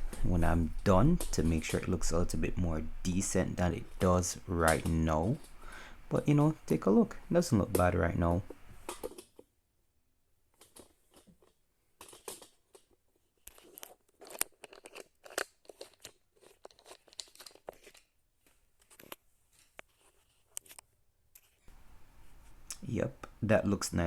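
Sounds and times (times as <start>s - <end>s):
small objects rustling and clicking: 0.0s - 5.6s, 6.2s - 9.5s, 10.5s - 21.8s.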